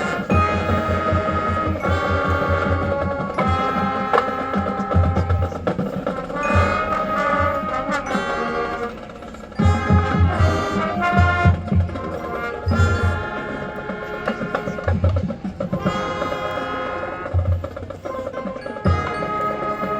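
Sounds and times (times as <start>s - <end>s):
brass holding chords: 0.0s - 19.9s.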